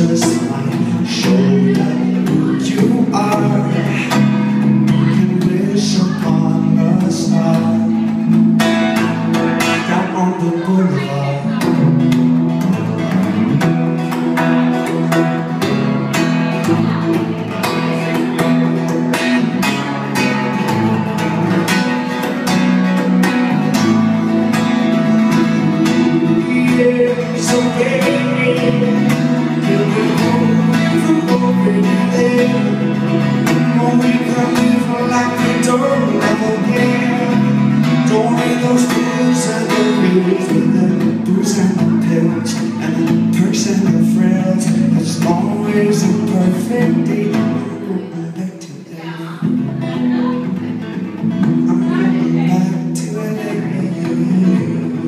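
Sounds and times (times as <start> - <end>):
acoustic guitar strumming: 0.0 - 55.0
man singing: 0.0 - 55.0
second guitar: 0.0 - 55.0.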